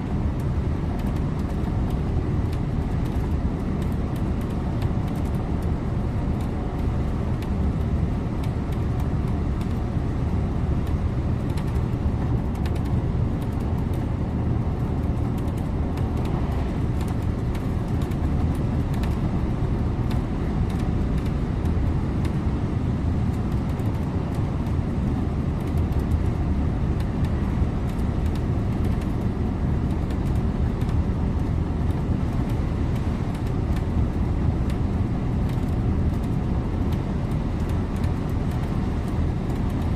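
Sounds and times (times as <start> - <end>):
bus engine and road drone: 0.0 - 39.9.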